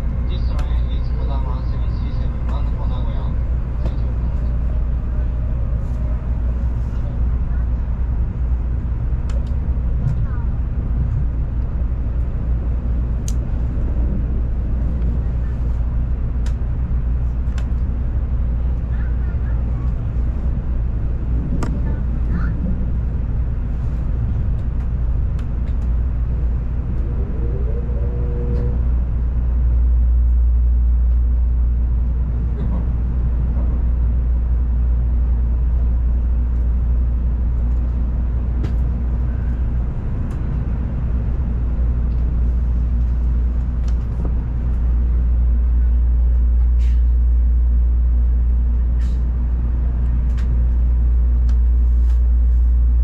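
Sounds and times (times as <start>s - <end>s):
train cabin rumble: 0.0s - 53.0s.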